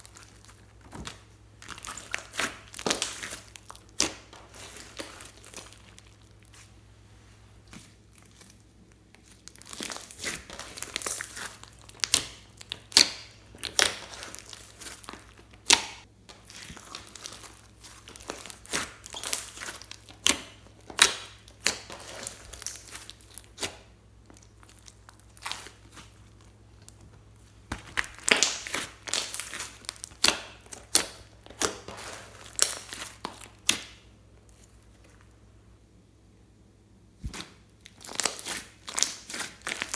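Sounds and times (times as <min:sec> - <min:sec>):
slime squishing: 0:00.0 - 0:35.4, 0:37.2 - 0:39.9.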